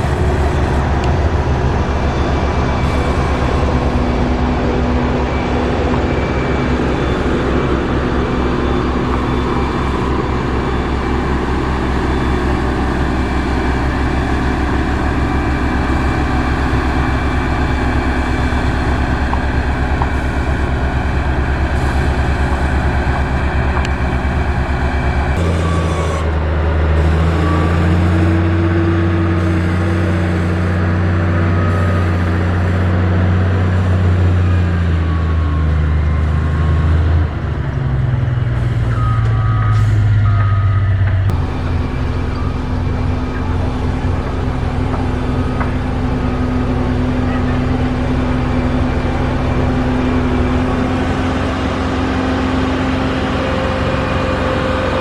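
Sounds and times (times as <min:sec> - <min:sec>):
engine deep steady hum: 0:00.0 - 0:55.0
heavy diesel engines running: 0:00.0 - 0:55.0.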